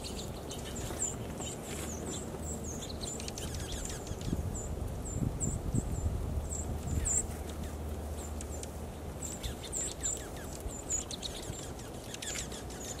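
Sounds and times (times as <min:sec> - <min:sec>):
small songbirds calling: 0:00.0 - 0:13.0.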